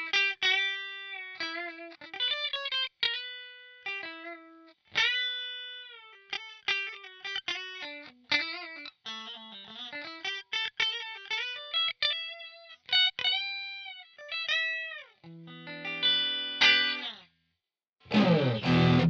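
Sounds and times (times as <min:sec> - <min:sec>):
electric guitar lead lines: 0:00.0 - 0:17.2, 0:18.0 - 0:19.0.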